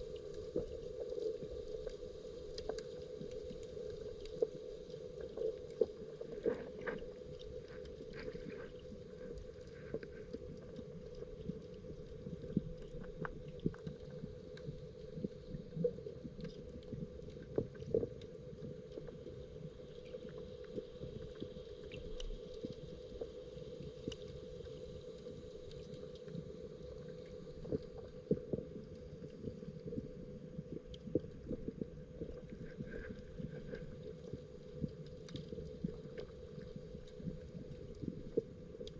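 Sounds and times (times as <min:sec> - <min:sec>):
low underwater hum: 0:00.0 - 0:38.9.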